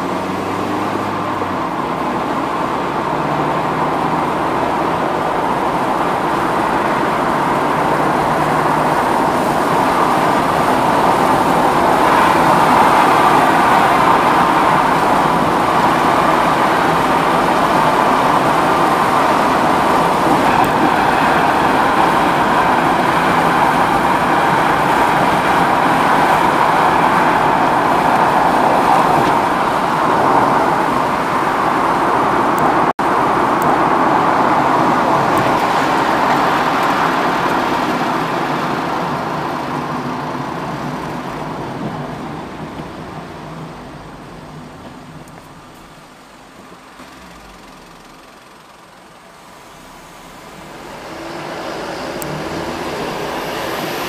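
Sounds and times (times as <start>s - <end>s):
car engine running: 0.0s - 54.0s
road and tyre noise: 0.0s - 54.0s.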